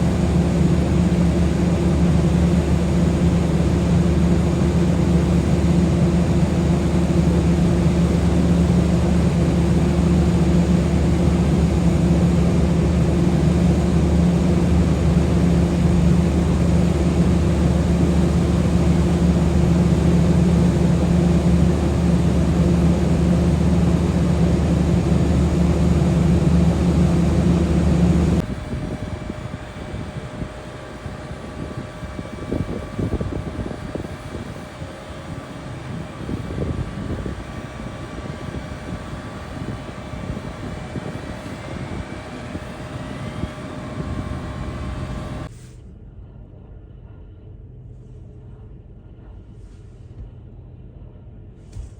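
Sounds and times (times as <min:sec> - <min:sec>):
jet engines humming: 0:00.0 - 0:45.5.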